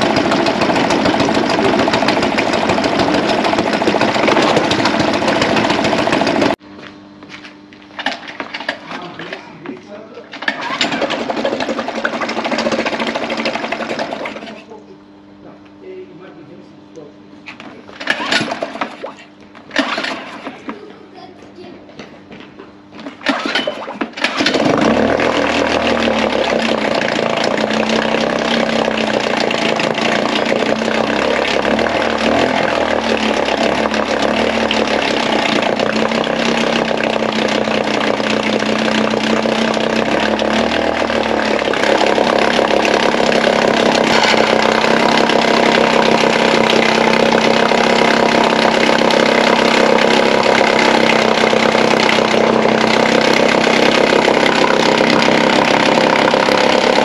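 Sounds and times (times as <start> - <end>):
outboard motor starting and running: 0.0 - 6.6, 7.9 - 15.4, 17.6 - 21.3, 22.9 - 57.0.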